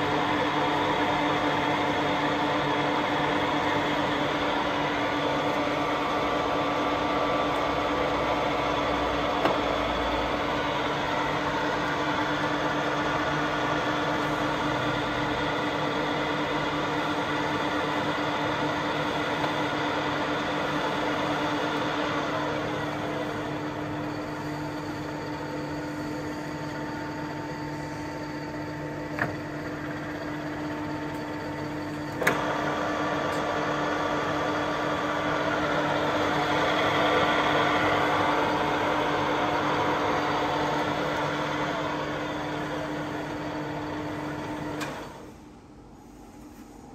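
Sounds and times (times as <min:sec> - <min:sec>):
lathe running with steady hum: 0:00.0 - 0:46.9.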